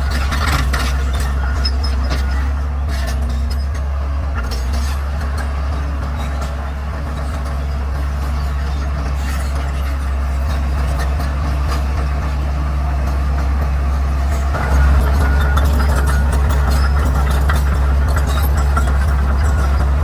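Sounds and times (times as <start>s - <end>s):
bulldozer diesel engine drone: 0.0s - 20.0s.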